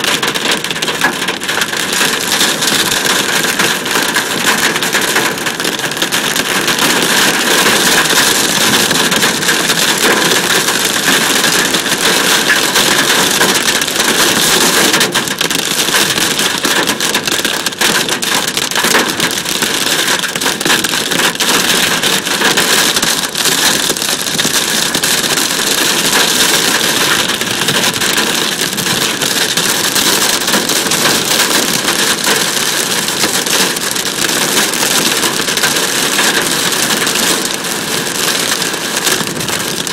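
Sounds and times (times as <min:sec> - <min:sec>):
hail and rain pelting truck: 0:00.0 - 0:39.9.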